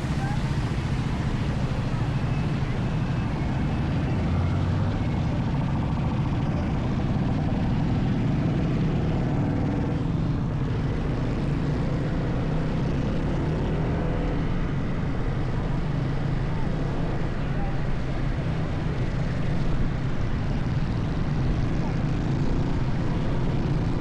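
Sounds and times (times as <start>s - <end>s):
low vehicle rumble: 0.0s - 24.0s.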